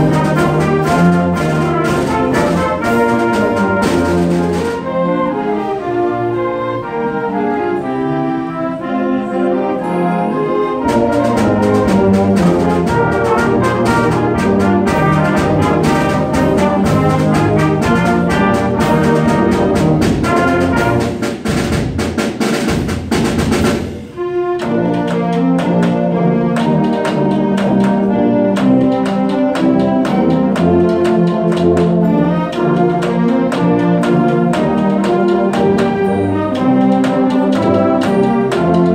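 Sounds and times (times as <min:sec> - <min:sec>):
timpani and bass drum: 0:00.0 - 0:09.4, 0:10.1 - 0:38.9
trumpets trombones and woodwinds: 0:00.0 - 0:38.9.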